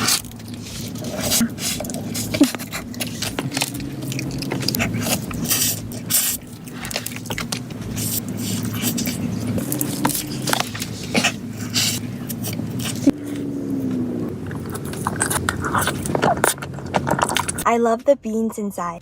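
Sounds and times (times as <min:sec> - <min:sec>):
wet mouth clicks and chewing: 0:00.0 - 0:13.2, 0:13.9 - 0:17.7
steady low hum: 0:00.0 - 0:19.0.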